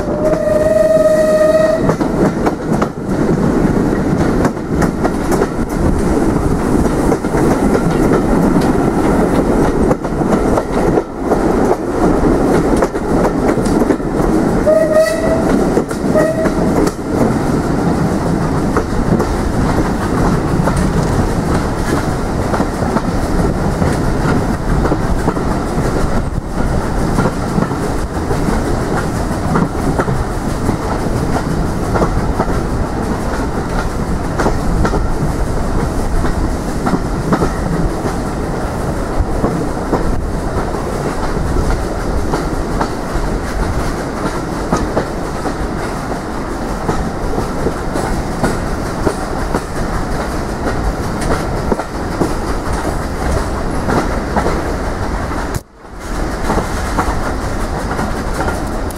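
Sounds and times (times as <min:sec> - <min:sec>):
train running on track: 0:00.0 - 0:58.9
wheels clicking over rail joints: 0:00.1 - 0:58.9.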